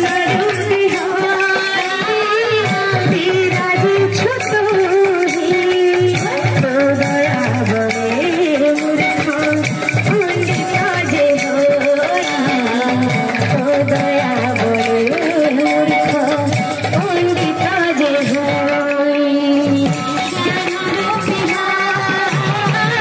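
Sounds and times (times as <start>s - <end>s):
instrumental accompaniment: 0.0s - 23.0s
person singing into a microphone: 0.0s - 23.0s.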